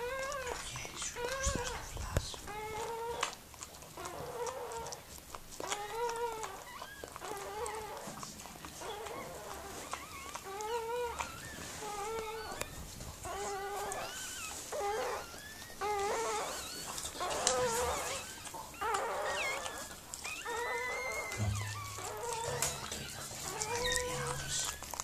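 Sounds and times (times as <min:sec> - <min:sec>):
puppies whimpering: 0:00.0 - 0:25.0.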